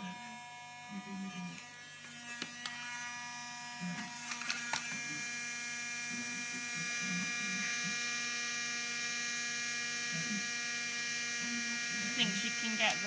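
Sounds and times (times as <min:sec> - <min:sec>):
mini vacuum cleaner motor whine: 0:00.0 - 0:13.0.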